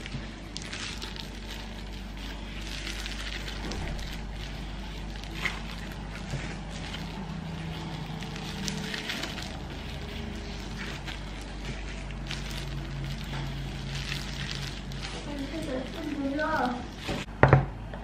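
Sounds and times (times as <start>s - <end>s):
plastic gloves rustling: 0.0s - 17.3s
low hum: 0.0s - 18.0s.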